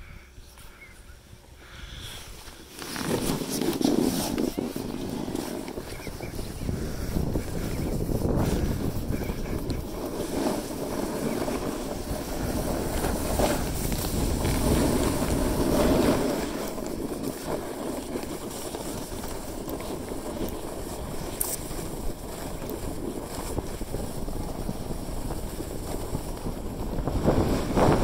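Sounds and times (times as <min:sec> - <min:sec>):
wind buffeting microphone: 0:00.0 - 0:28.0
skis scraping over snow: 0:01.6 - 0:28.0.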